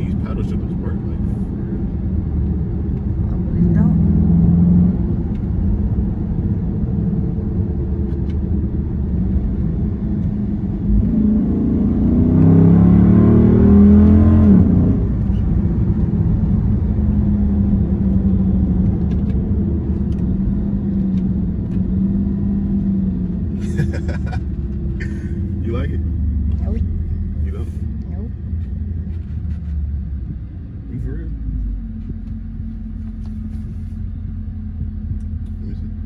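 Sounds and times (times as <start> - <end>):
car engine droning inside cabin: 0.0 - 36.0.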